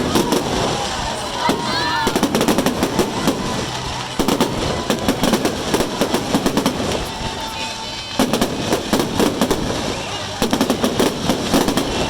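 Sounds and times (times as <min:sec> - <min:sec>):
firework whistle: 0:00.0 - 0:12.0
fireworks crackling bangs: 0:00.0 - 0:12.0.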